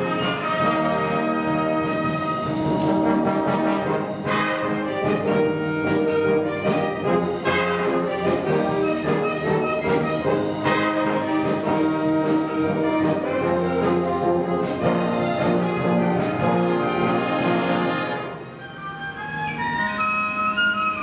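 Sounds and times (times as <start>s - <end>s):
brass held chords: 0.0s - 20.0s
wind band playing: 0.0s - 21.0s.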